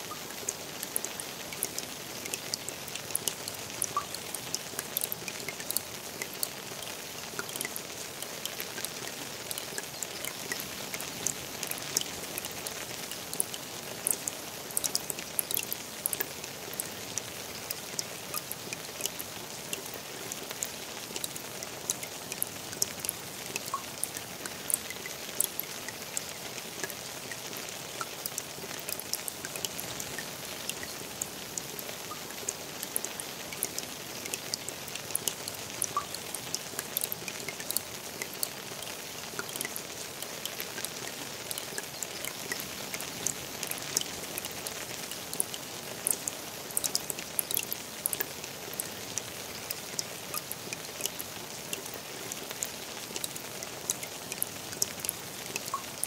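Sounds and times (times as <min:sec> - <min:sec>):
rain falling on a pond: 0:00.0 - 0:56.0.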